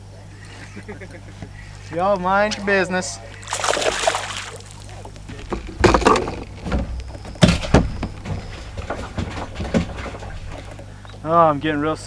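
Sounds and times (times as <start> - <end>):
low steady hum: 0.0 - 12.0
knocks and thuds in a boat: 1.4 - 11.4.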